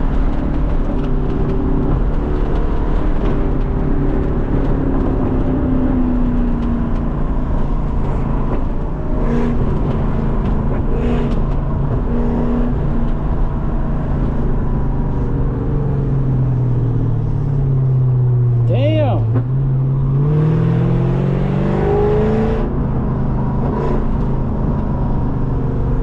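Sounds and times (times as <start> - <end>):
car engine with loud exhaust: 0.0 - 26.0.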